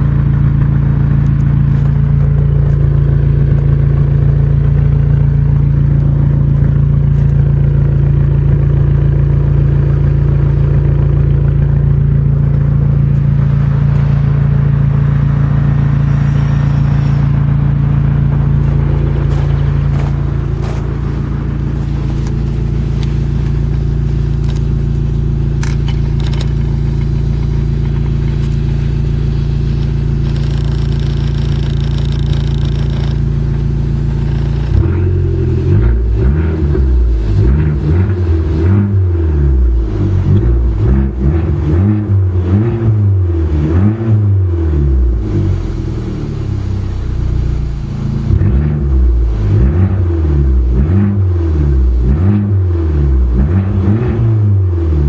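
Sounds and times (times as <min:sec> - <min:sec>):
car engine idling: 0:00.0 - 0:55.0
car engine revving: 0:00.0 - 0:55.0.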